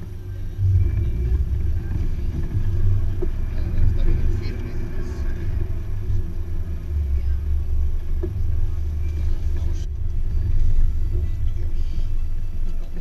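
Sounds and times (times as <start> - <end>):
off-road vehicle engine rumbling: 0.0 - 13.0.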